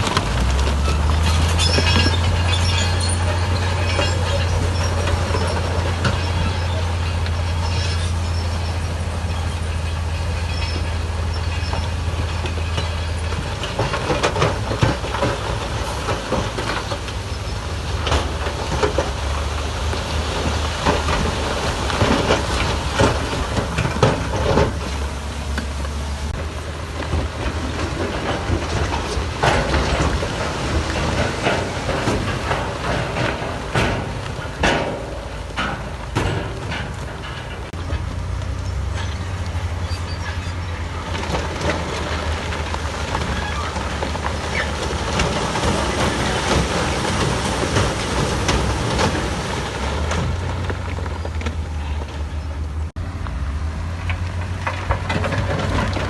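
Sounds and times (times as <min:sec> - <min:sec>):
heavy diesel machinery engine: 0:00.0 - 0:56.0
machinery knocks and clanks: 0:00.0 - 0:56.0.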